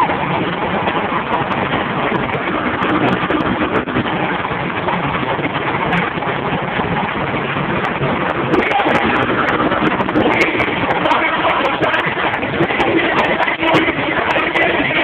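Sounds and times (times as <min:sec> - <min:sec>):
distorted live rock band and crowd: 0:00.0 - 0:15.0.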